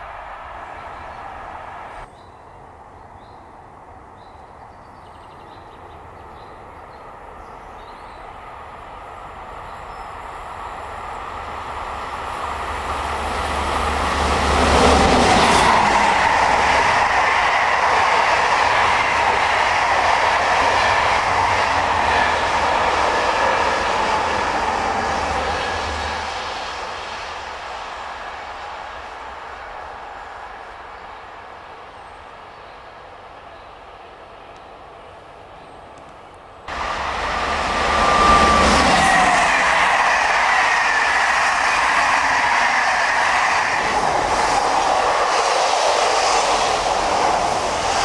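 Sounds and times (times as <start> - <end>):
electric train passing: 0.0 - 48.0
train wheels rolling on rail: 5.1 - 48.0.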